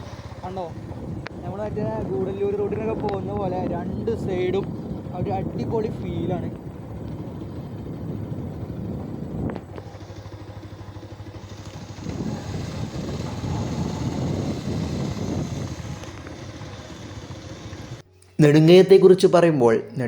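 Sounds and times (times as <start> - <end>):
motorcycle engine running: 0.0 - 18.1.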